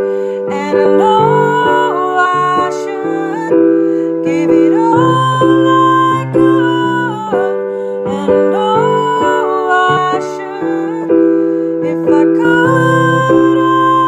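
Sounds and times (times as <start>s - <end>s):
piano chords: 0.0s - 14.0s
woman singing gliding notes: 0.0s - 14.0s.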